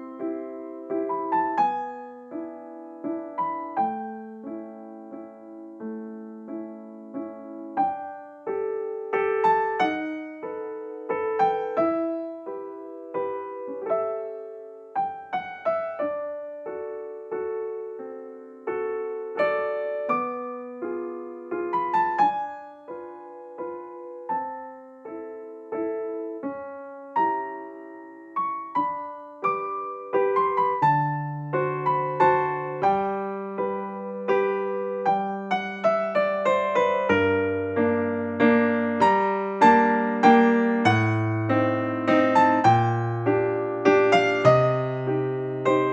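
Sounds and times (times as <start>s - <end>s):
slow piano melody: 0.0s - 45.9s.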